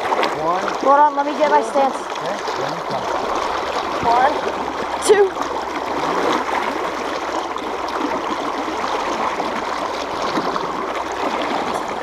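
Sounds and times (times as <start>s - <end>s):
fast river current rushing: 0.0s - 12.0s.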